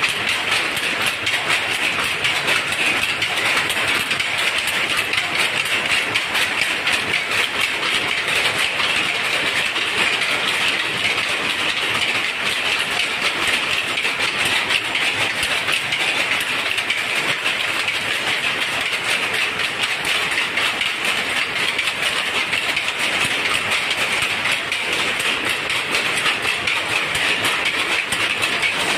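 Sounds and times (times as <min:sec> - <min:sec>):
power looms clattering: 0:00.0 - 0:28.9.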